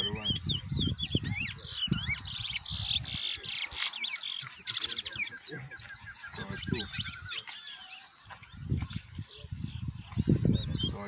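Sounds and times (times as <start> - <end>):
finches singing: 0.0 - 11.0.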